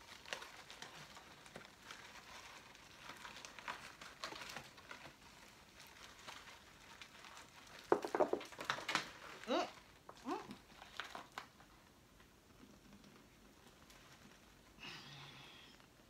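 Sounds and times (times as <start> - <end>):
faint popcorn crunching: 0.0 - 16.0.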